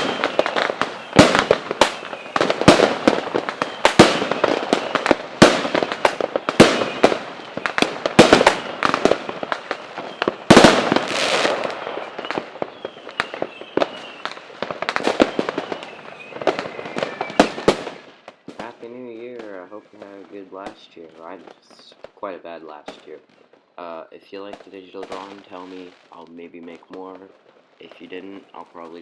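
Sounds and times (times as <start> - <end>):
faint fireworks whistling: 0.0 - 29.0
fireworks bangs and crackles: 0.0 - 29.0.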